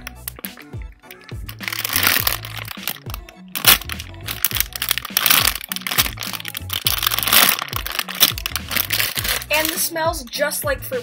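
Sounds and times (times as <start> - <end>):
background music: 0.0 - 11.0
plastic bag crinkling: 1.1 - 10.0.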